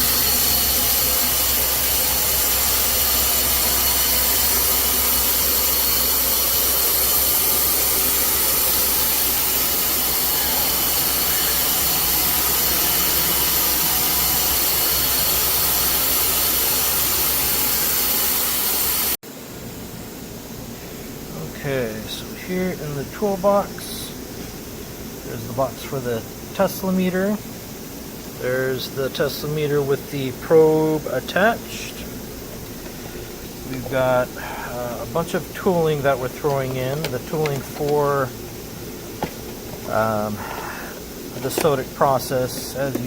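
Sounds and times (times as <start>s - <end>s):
industrial machinery hum: 0.0s - 43.0s.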